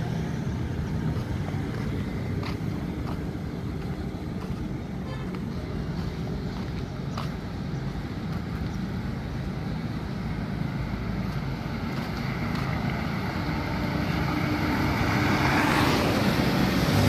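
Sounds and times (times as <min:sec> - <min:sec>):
auto-rickshaw engine: 0:00.0 - 0:17.0
road traffic hum: 0:00.0 - 0:17.0.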